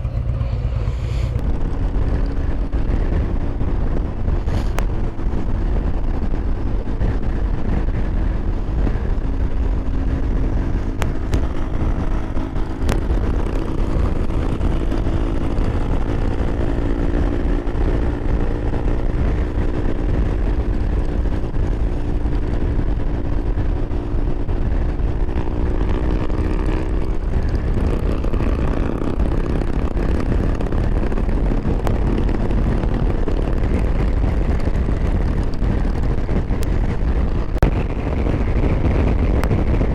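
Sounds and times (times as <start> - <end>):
motorcycle engine: 0.0 - 39.9
road noise: 0.0 - 39.9
wind rush: 0.0 - 39.9.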